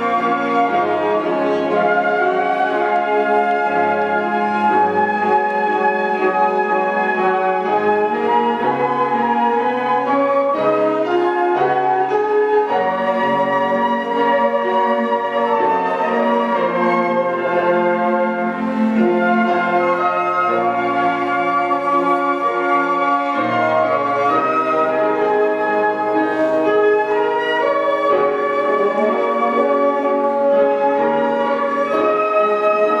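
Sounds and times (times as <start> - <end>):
flute ensemble playing: 0.0 - 33.0.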